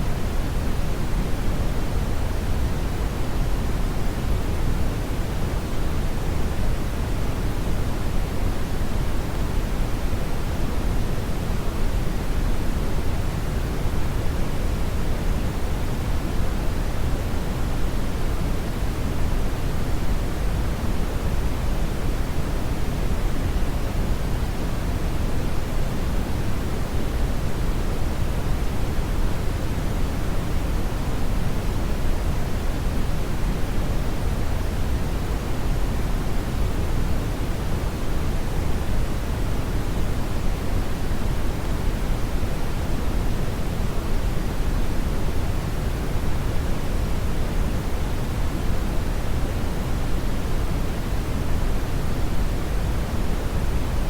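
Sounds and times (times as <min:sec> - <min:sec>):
deep rushing hiss of brown noise: 0:00.0 - 0:54.0.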